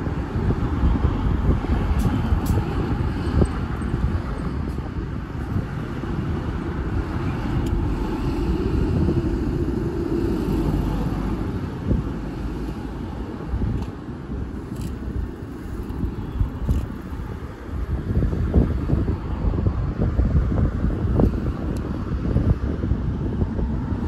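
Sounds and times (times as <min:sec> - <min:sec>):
low rumble of vehicles: 0:00.0 - 0:24.0
vehicle hum: 0:00.0 - 0:24.0
wind buffeting microphone: 0:00.0 - 0:24.0.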